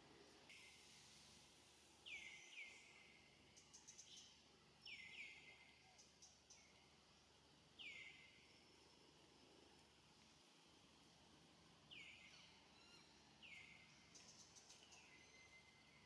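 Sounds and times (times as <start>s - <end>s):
quiet forest ambience: 0.0s - 16.0s.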